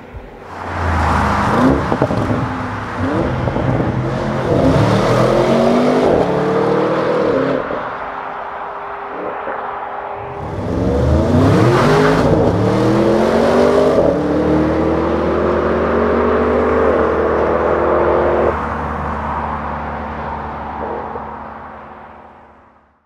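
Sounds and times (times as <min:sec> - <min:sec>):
car engine accelerating: 0:00.2 - 0:22.3.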